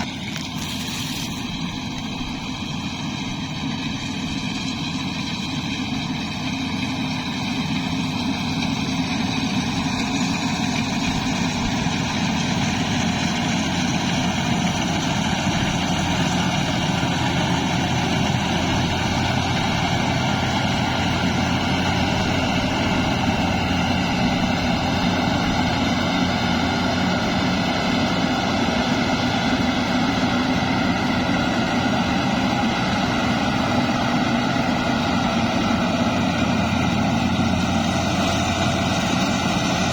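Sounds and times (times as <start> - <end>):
combine harvester machinery drone: 0.0 - 39.9.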